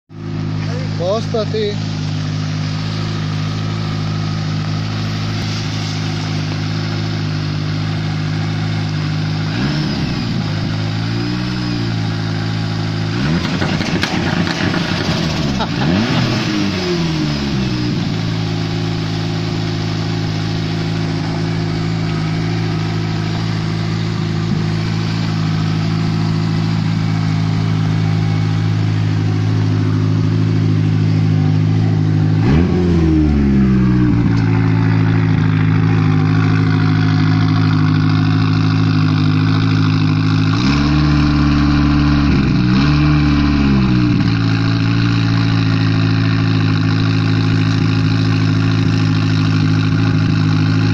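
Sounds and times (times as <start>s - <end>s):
car engine idling and revving: 0.1s - 50.9s.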